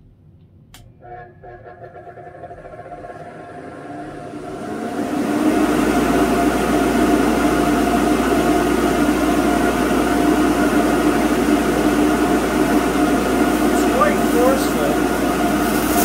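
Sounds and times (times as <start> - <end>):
blower running with hum and whine: 0.7 - 16.0.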